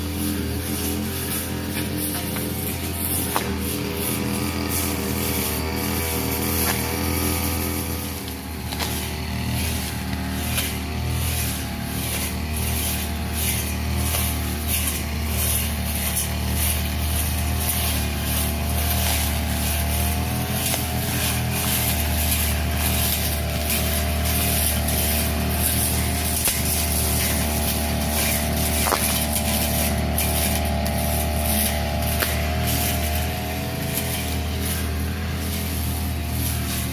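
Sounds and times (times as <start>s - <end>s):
blade hissing through grass: 0.0s - 36.9s
brush cutter engine running: 0.0s - 36.9s.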